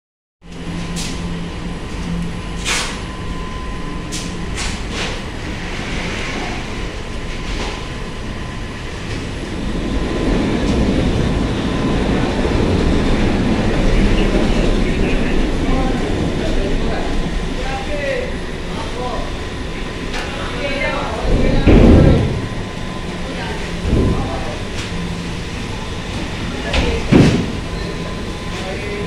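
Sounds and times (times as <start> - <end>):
conveyor machinery rumble and hum: 0.4 - 29.0.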